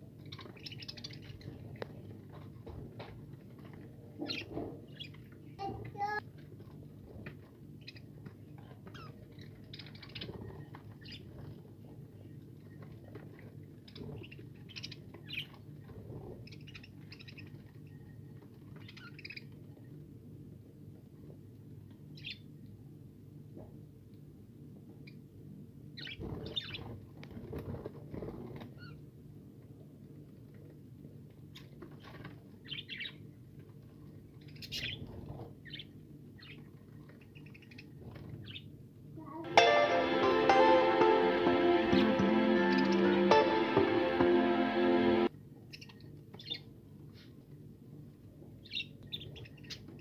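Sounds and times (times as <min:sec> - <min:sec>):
low background hum: 0:00.0 - 0:50.0.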